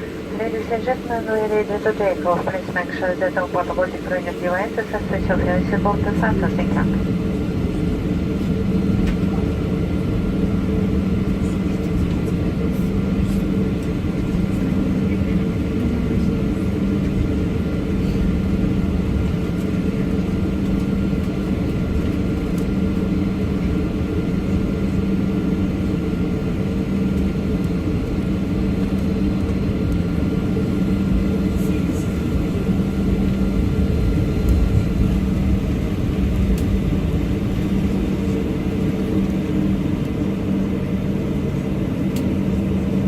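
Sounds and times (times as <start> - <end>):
airliner engines cabin drone: 0.0 - 43.0.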